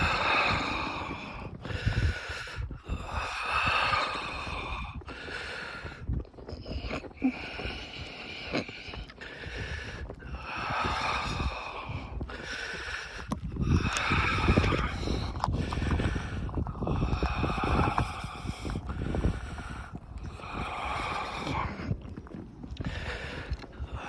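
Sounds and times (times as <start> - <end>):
low rumbling: 0.0 - 24.0
person breathing heavily: 0.0 - 24.0.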